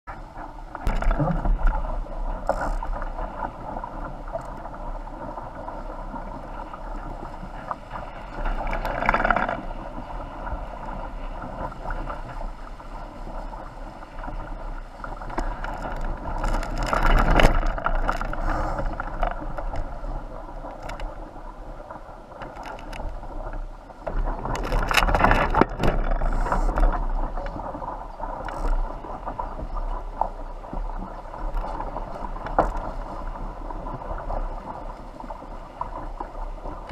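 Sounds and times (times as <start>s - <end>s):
wind and water rushing: 0.1s - 36.9s.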